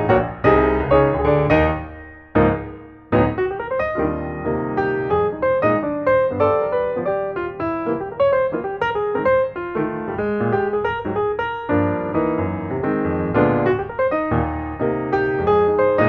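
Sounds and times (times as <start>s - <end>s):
lively piano music: 0.0s - 16.0s.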